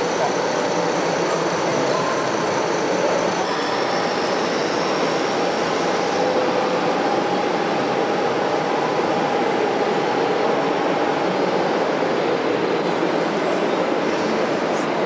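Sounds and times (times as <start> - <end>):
constant rushing noise: 0.0 - 15.0.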